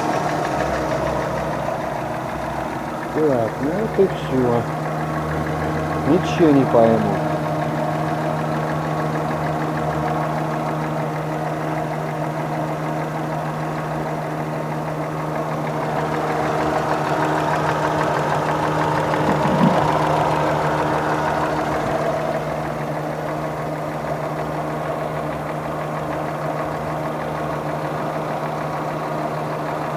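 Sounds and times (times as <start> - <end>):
car engine idling with a knock: 0.0 - 29.8.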